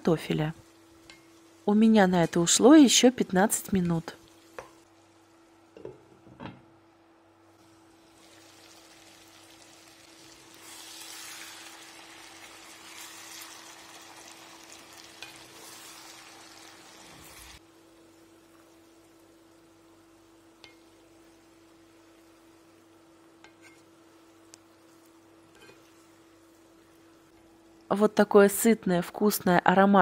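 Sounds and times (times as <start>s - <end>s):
food sizzling in a frying pan: 0.0s - 6.0s, 7.5s - 28.7s.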